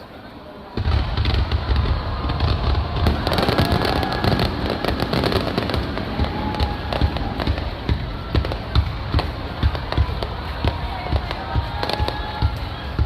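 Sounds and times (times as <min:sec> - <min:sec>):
fireworks crackling: 0:00.0 - 0:13.0
deep fireworks booms: 0:00.7 - 0:13.0.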